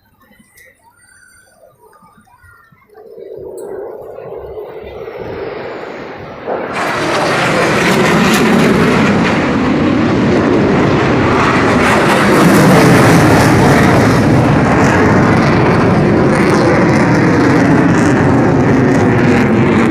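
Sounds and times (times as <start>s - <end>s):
plane engine flying past: 0.0s - 19.9s.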